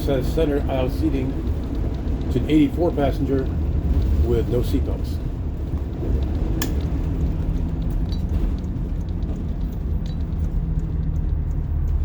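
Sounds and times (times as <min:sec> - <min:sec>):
light rattles in cabin: 0:00.0 - 0:11.4
diesel bus engine rumbling: 0:00.0 - 0:12.0
road noise: 0:00.0 - 0:12.0.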